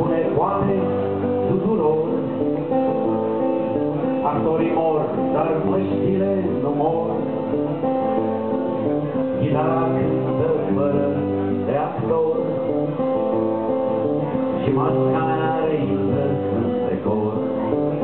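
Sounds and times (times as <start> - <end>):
man singing: 0.0 - 7.9, 9.1 - 18.0
acoustic guitar strumming: 0.0 - 18.0.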